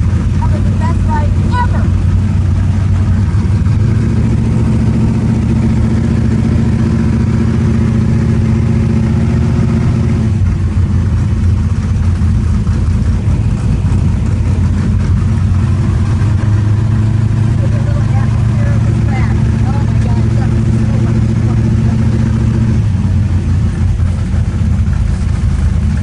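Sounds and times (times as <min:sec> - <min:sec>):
race car engine droning: 0:00.0 - 0:26.0.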